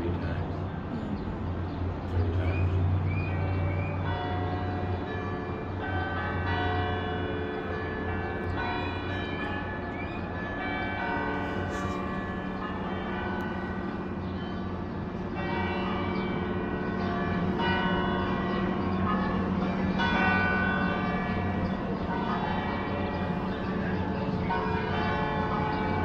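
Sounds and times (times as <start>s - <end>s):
church bells ringing: 3.3s - 26.0s.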